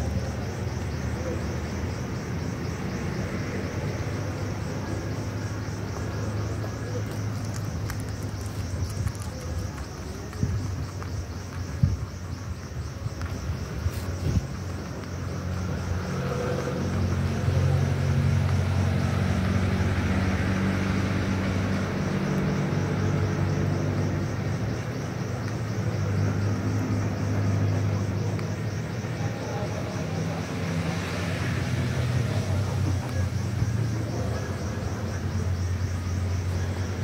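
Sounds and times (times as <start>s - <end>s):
low engine rumble: 0.0s - 37.0s.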